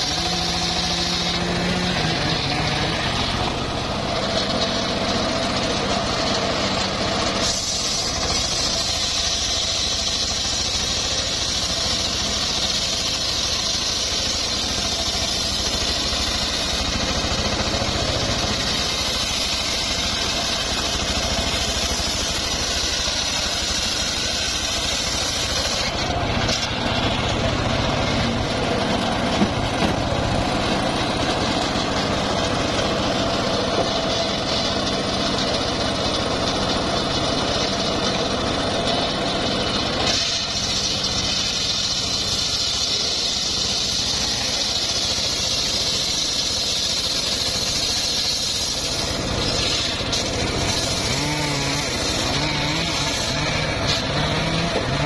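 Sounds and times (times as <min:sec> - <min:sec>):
circular sawmill cutting log: 0:00.0 - 0:55.0.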